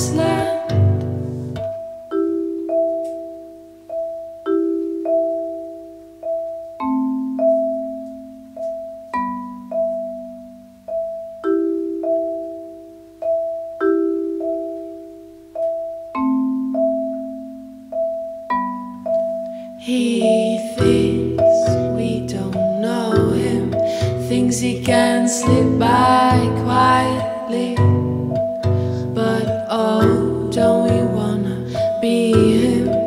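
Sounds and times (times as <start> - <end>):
vibraphone playing: 0.0 - 33.0.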